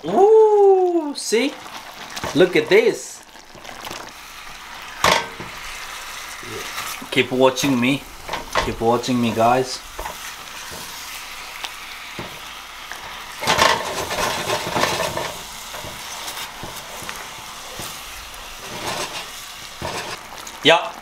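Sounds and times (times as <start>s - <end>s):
food sizzling in a pan: 0.0s - 21.0s
stirring and scraping in pan: 1.3s - 20.7s.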